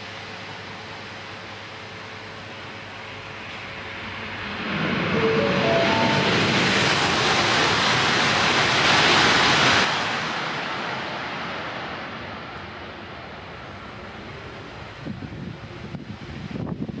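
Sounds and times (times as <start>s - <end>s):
high-speed train rushing past: 0.0s - 17.0s.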